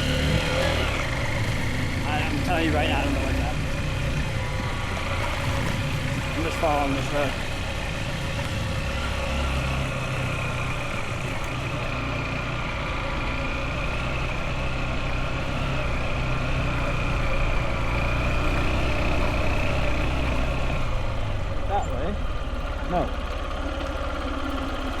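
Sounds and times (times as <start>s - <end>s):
motorbike engine running: 0.0s - 25.0s.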